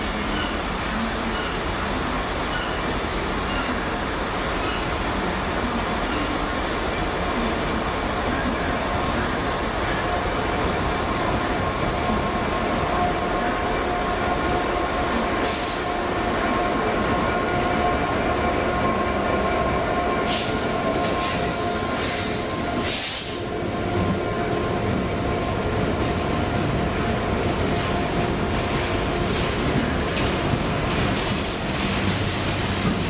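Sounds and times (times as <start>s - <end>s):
train whine: 0.0s - 33.0s.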